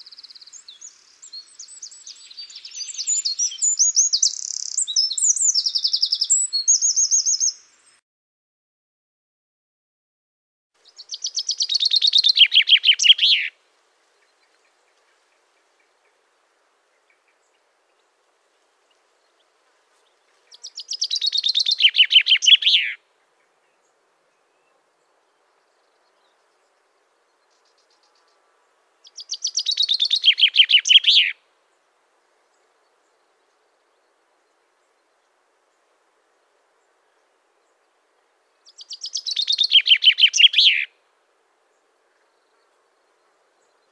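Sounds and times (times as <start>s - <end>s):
songbird singing: 0.0s - 8.0s, 10.8s - 43.9s.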